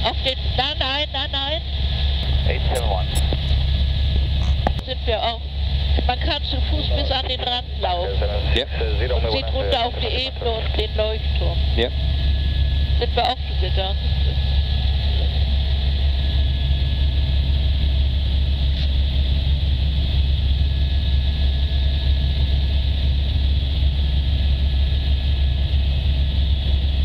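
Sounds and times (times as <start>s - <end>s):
helicopter rotor and engine drone: 0.0s - 27.0s
thin steady whine: 0.0s - 27.0s.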